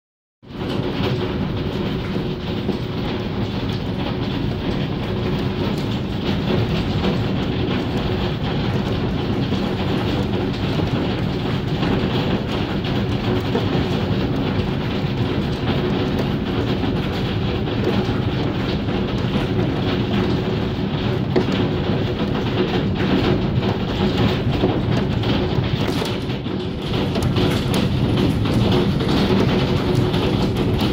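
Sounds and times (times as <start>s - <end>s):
hailstones clattering: 0.5s - 30.9s.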